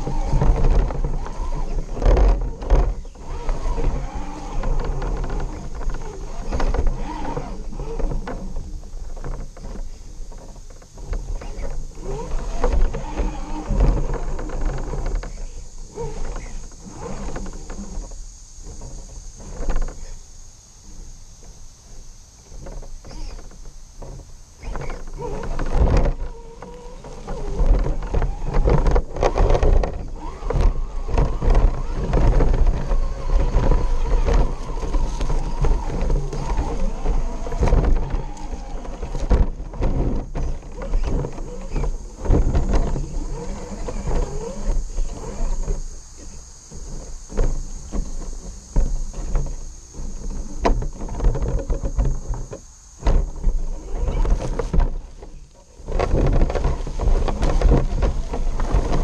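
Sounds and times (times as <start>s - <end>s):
tyres scraping against rock: 0.0s - 20.2s, 22.5s - 59.0s
rc truck motor running: 0.0s - 59.0s.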